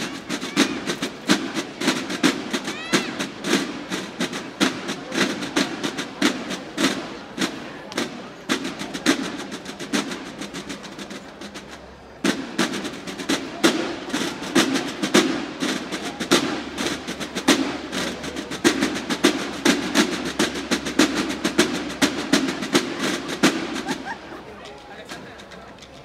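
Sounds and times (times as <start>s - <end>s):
snare drum line playing: 0.0s - 25.7s.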